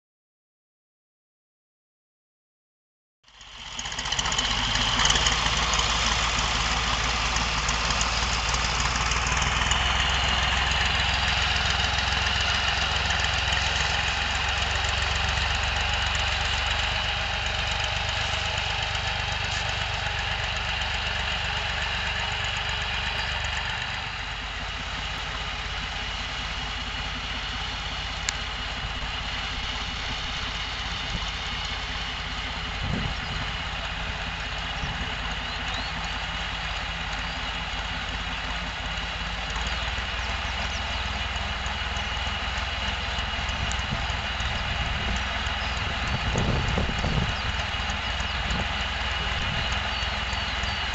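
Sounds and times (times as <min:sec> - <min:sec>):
tractor engine running: 0:03.2 - 0:50.9.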